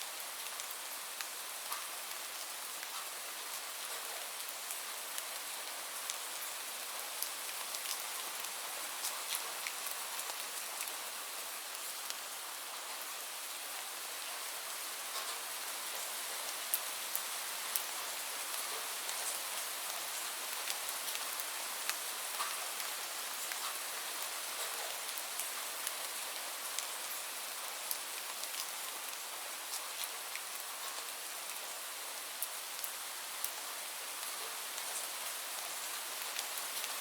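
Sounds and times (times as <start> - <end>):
steady rain: 0.0 - 37.0.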